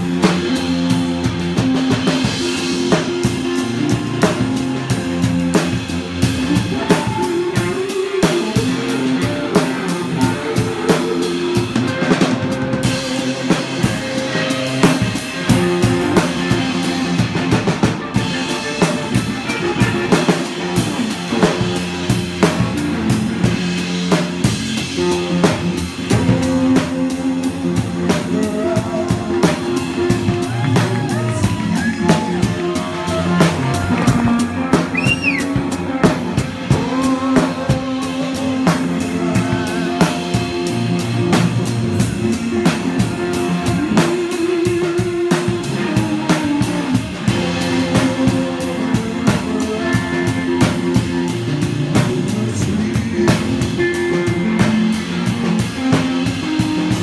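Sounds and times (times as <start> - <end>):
drum kit with cymbals: 0.0 - 57.0
gliding electric guitar: 0.0 - 57.0
low bass notes: 0.0 - 57.0.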